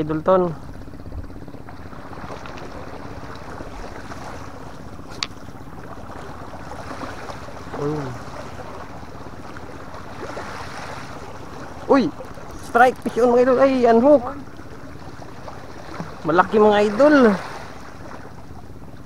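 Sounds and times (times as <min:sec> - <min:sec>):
sea waves against rocks: 0:01.7 - 0:18.5.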